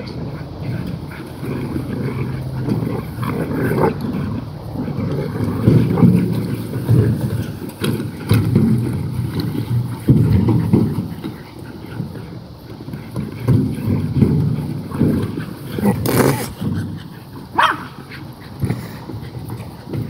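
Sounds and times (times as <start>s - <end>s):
dogs scuffling with wheelbarrow: 0.0s - 20.0s
wheelbarrow knocks: 0.8s - 20.0s.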